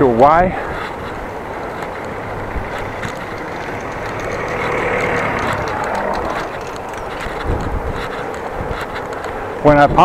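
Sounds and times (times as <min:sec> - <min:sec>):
bicycle tyres and wind rushing: 0:00.0 - 0:10.0.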